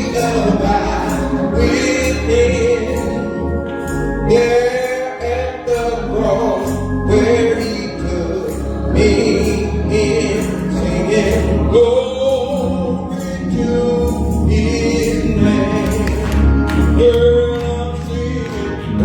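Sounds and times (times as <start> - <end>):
gospel singing voices: 0.0 - 19.0
instrumental accompaniment: 0.0 - 19.0
sustained low bass notes: 0.0 - 19.0.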